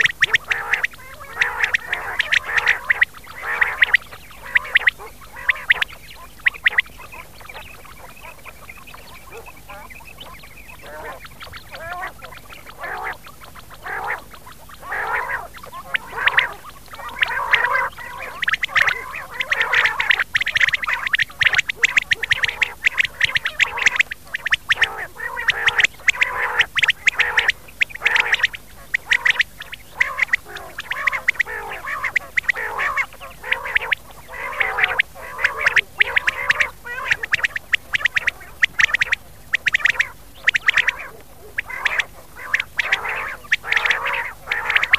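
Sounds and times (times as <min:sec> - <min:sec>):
quail calling: 0:00.0 - 0:44.9.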